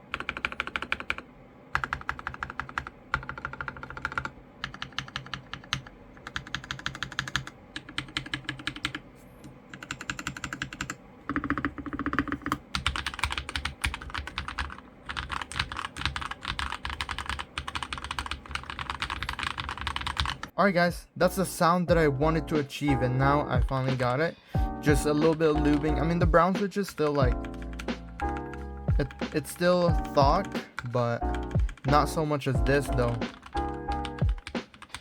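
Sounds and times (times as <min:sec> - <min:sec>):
mechanical keyboard typing: 0:00.1 - 0:09.0, 0:09.7 - 0:20.5, 0:25.0 - 0:35.0.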